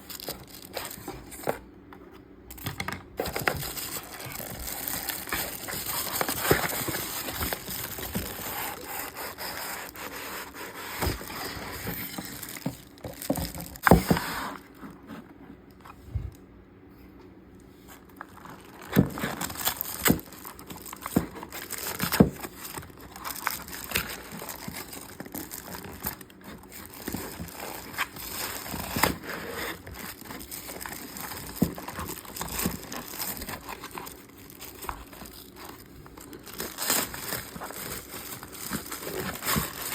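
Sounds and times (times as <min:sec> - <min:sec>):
paper and cardboard rustling: 0:00.0 - 0:16.5, 0:17.7 - 0:39.9.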